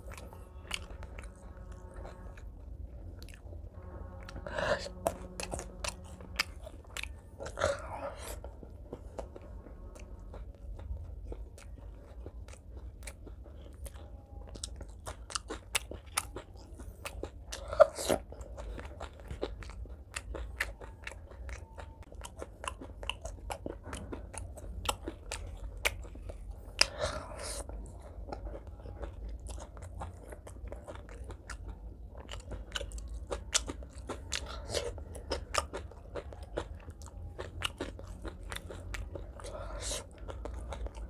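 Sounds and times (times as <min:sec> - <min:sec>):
wet chewing mouth clicks: 0:04.2 - 0:41.0.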